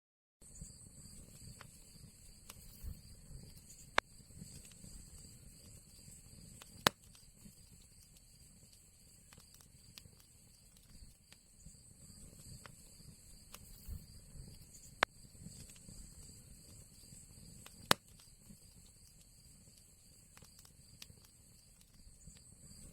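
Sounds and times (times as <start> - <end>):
fire crackling: 0.4 - 22.9
sharp fire pops: 0.5 - 22.9.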